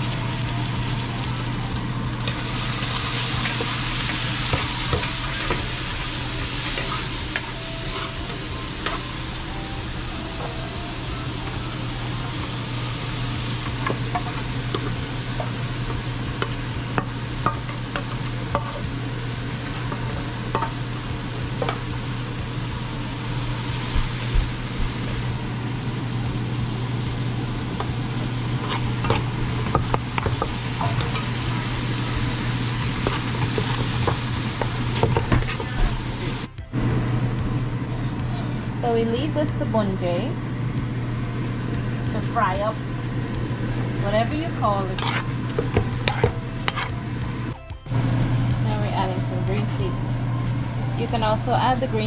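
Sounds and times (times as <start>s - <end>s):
low hum: 0.0s - 52.0s
onions sizzling in hot oil: 0.0s - 52.0s.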